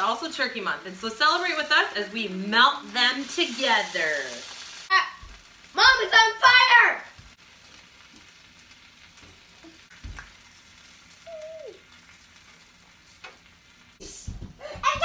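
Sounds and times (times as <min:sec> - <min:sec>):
sandwiches sizzling on a griddle: 0:00.0 - 0:14.4.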